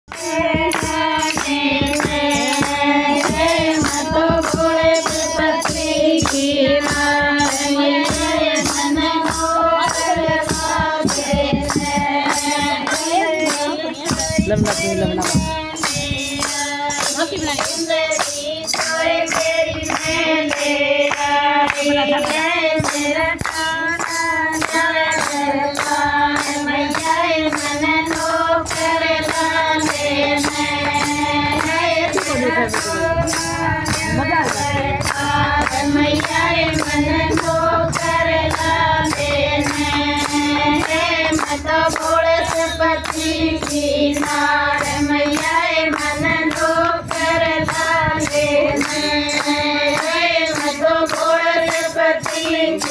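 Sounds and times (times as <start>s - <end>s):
hands clapping: 0.1s - 52.9s
tambourine jingling: 0.1s - 52.9s
women singing together: 0.1s - 52.9s.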